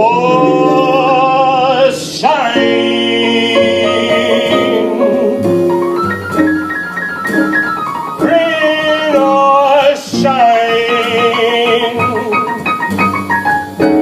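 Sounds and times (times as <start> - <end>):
man singing jazz with vibrato: 0.0 - 7.0, 7.9 - 14.0
jazz band playing: 0.0 - 14.0
piano run of single notes: 0.0 - 14.0.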